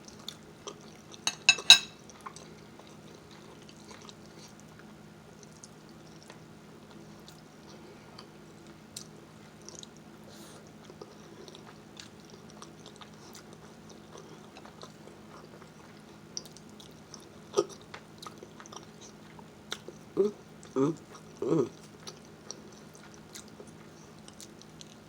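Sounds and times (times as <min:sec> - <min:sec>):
chewing and mouth smacks: 0:00.1 - 0:01.2, 0:02.1 - 0:20.0, 0:20.6 - 0:25.0.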